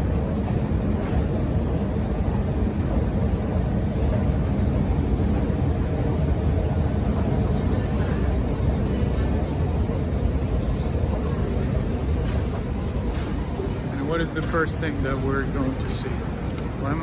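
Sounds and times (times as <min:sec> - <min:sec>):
escalator rumble and hum: 0:00.0 - 0:17.0.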